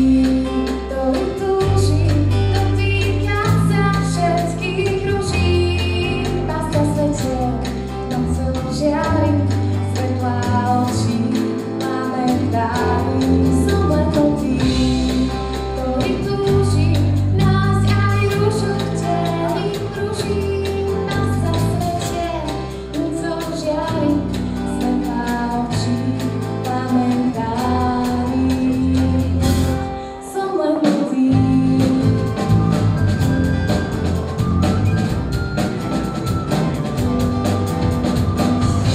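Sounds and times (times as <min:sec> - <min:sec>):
woman singing: 0:00.0 - 0:32.8
band playing pop song: 0:00.0 - 0:38.9.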